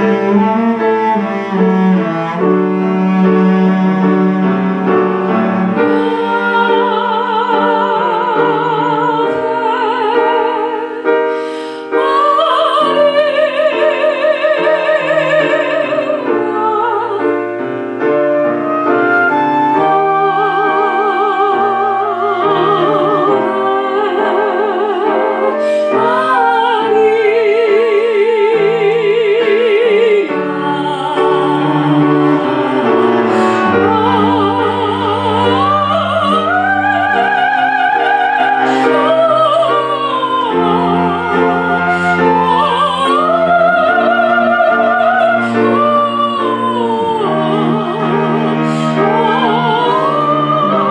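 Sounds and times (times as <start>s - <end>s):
operatic singing: 0.0s - 50.9s
piano accompaniment: 0.0s - 50.9s.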